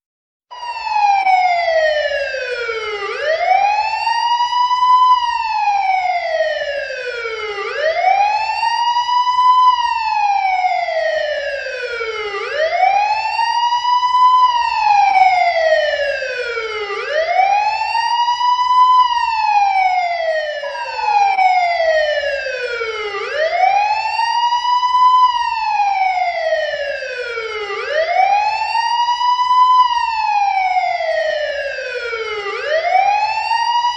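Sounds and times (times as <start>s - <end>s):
police siren wailing: 0.5s - 33.9s.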